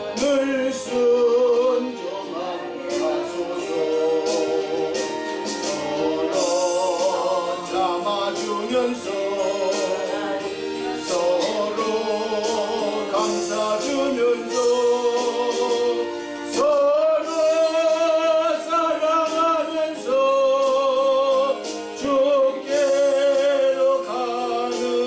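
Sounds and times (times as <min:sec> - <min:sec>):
instrumental accompaniment: 0:00.0 - 0:25.0
person singing gospel song: 0:00.0 - 0:25.0.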